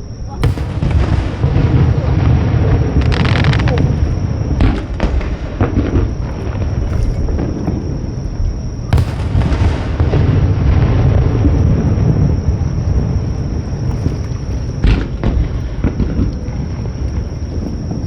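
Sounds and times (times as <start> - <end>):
deep rumble: 0.0 - 18.0
fireworks booming: 0.0 - 18.0
fireworks crackling: 0.4 - 18.0.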